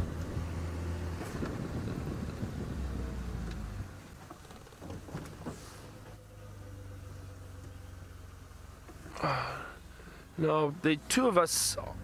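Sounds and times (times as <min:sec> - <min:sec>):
low engine drone: 0:00.0 - 0:11.1
tyre and road noise: 0:00.0 - 0:12.0.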